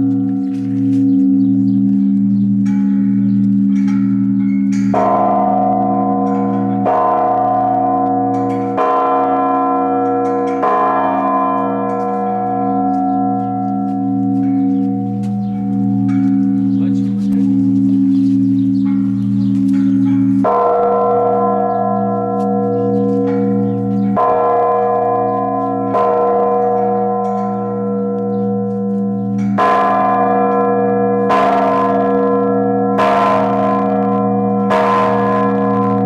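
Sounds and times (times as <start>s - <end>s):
large church bell ringing: 0.0s - 36.0s.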